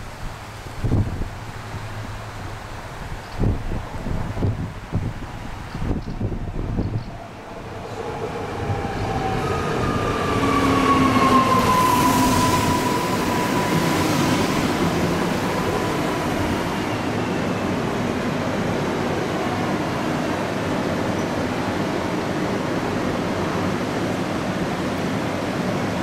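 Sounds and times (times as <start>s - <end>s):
train wheels rumbling on rails: 3.3s - 26.0s.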